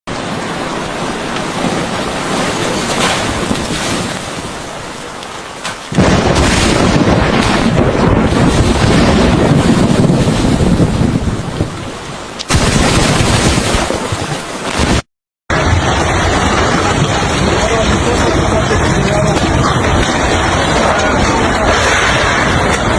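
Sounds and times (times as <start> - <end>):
wind: 0.0 - 22.9
heavy rain: 0.1 - 22.9.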